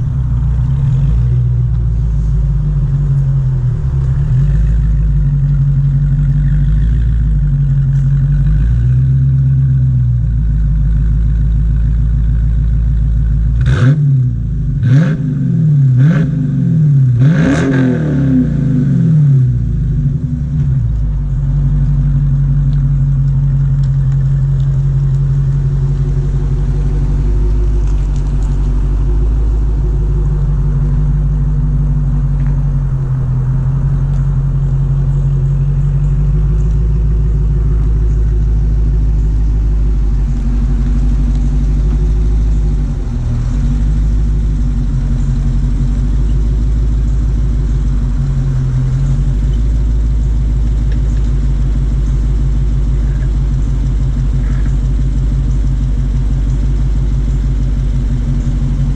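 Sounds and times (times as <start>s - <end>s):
car engine idling: 0.0s - 58.9s.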